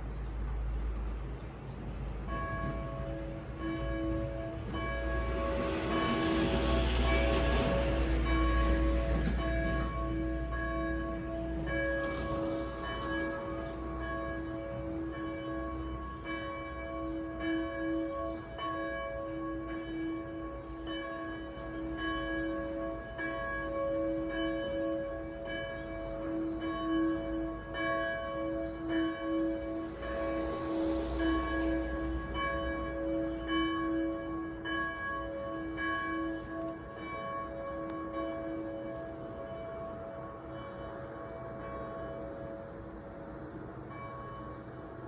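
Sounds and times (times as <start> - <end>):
church bells ringing: 2.0 - 45.0.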